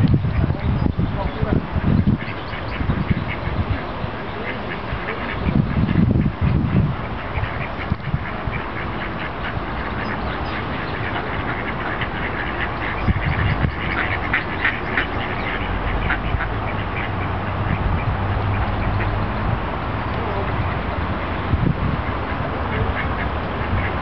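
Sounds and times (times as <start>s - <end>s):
ducks quacking: 0.2s - 24.0s.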